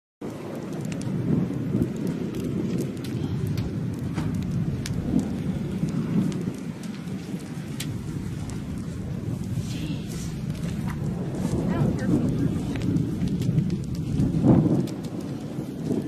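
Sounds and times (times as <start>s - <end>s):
wind buffeting microphone: 0.2s - 16.0s.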